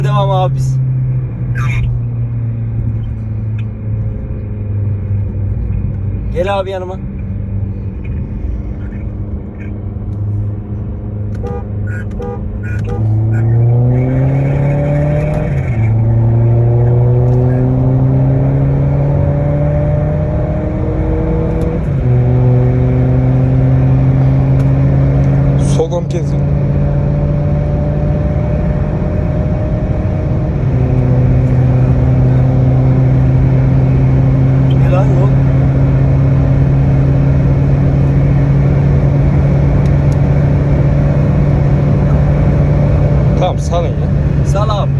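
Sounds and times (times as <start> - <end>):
diesel car accelerating hard: 0.0 - 44.9
road and wind noise: 0.0 - 44.9.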